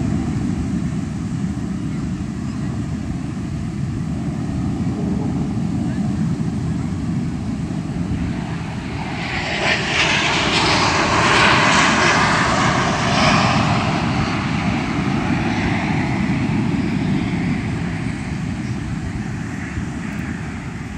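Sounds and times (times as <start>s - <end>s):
airplane engine passing over: 0.0s - 20.9s.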